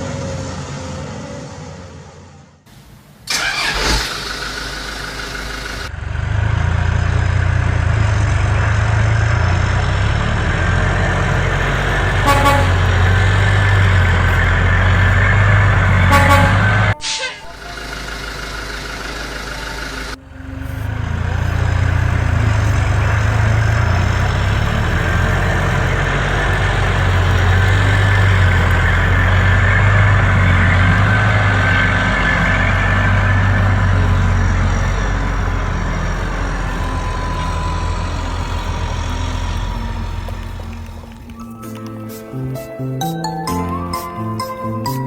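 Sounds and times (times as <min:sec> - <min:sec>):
diesel truck engine running: 0:00.0 - 0:45.0.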